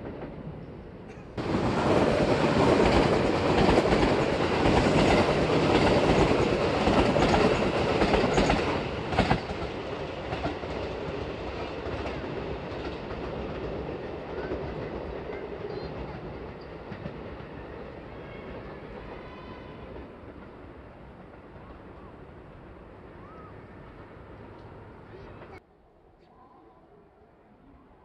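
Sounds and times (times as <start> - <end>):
electric train passing: 0.0 - 25.6.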